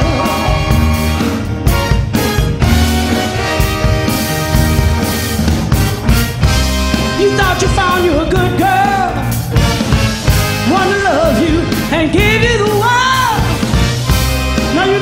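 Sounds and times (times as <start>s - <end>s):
soul band with horns playing: 0.0s - 15.0s.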